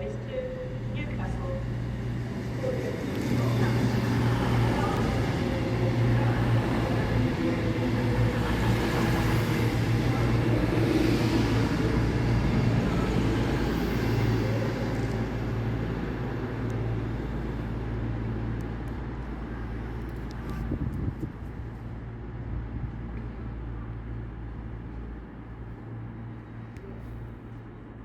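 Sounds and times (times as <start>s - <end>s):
train engine hum: 0.0s - 28.0s.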